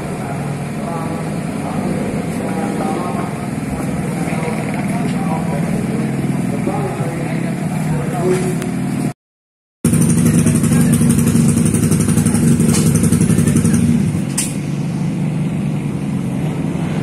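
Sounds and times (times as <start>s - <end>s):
dirt bike engine running: 0.0s - 9.1s, 9.8s - 17.0s.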